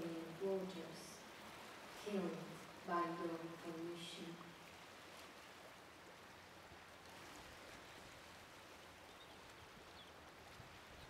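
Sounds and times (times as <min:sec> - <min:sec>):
choppy river water: 0:00.0 - 0:11.0.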